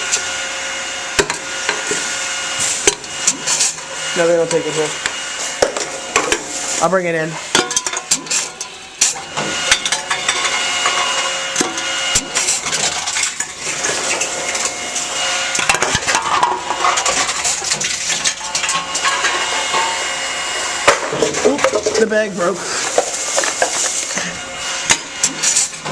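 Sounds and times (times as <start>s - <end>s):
steady machine hum: 0.0s - 25.9s
cans clattering and crunching: 1.2s - 25.9s.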